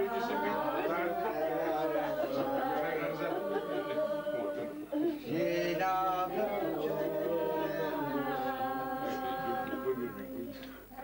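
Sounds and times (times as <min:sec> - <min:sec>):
unaccompanied singing voices: 0:00.0 - 0:11.0.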